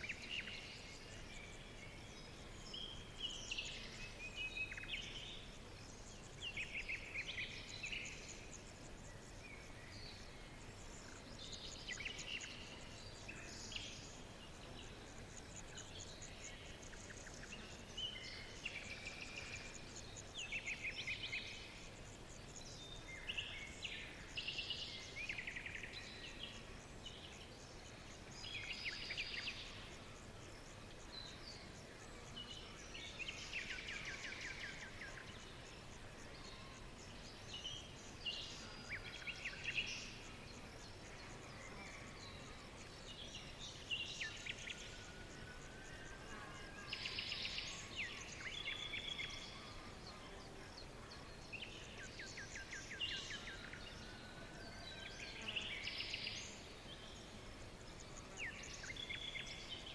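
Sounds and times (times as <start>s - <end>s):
soft hiss: 0.0s - 59.9s.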